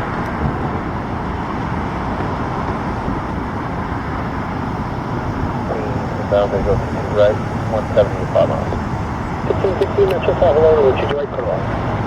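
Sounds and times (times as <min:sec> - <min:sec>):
airport and traffic rumble: 0:00.0 - 0:12.0.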